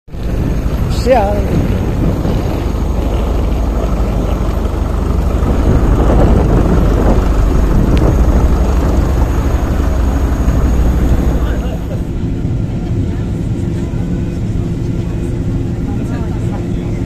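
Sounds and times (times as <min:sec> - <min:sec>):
aircraft rumbling roar: 0:00.0 - 0:17.0.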